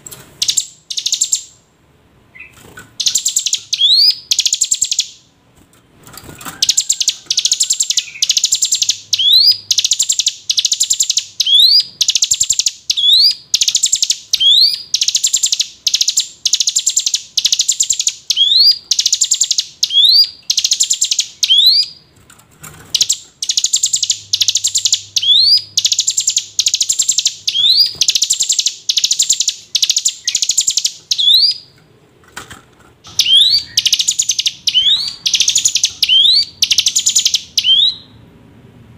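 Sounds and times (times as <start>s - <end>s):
bird singing buzzy phrases: 0.4s - 5.3s, 6.6s - 22.1s, 22.9s - 31.8s, 33.0s - 38.2s.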